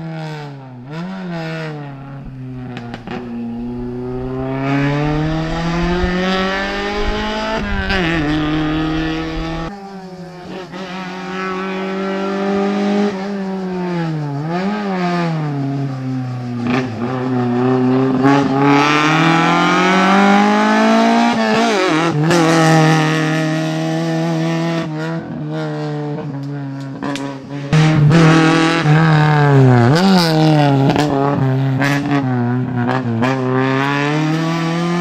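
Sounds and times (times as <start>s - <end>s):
race car engine revving: 0.0s - 35.0s.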